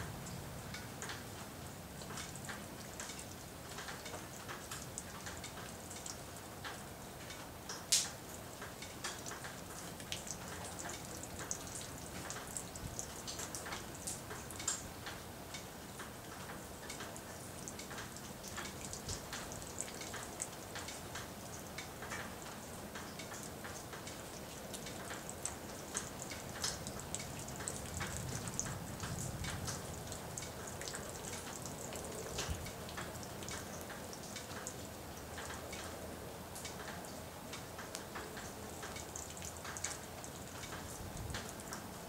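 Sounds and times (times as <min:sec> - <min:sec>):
drops and drips ticking: 0:00.0 - 0:42.0.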